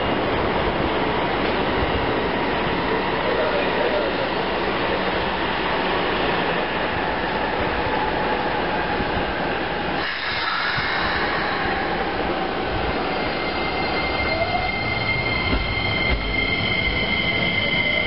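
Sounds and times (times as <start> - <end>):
electric train rushing: 3.3 - 18.0.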